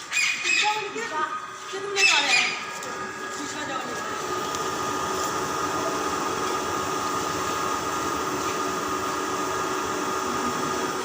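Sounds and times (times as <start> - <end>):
mechanical whirring with hum: 0.0 - 11.0.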